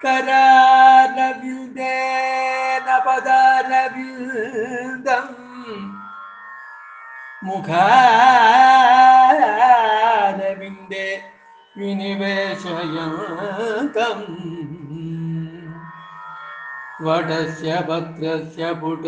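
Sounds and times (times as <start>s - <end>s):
man singing devotional melody: 0.0s - 6.1s, 7.4s - 16.0s, 17.0s - 19.0s.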